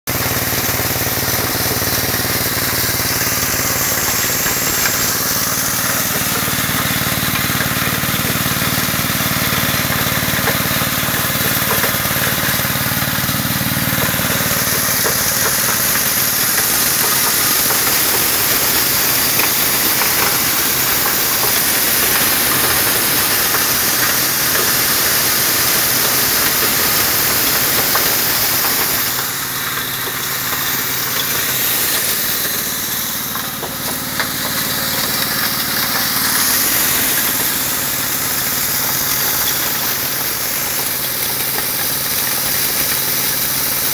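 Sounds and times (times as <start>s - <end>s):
small gasoline engine running: 0.0s - 43.9s.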